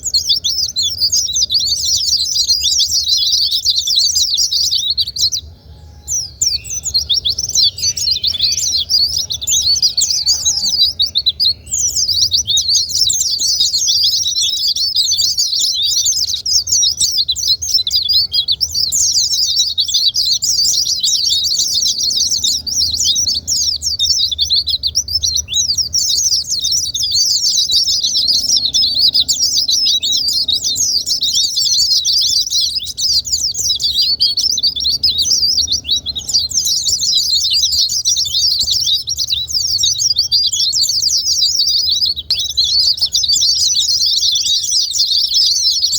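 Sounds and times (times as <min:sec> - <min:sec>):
birds twittering song: 0:00.0 - 0:45.9.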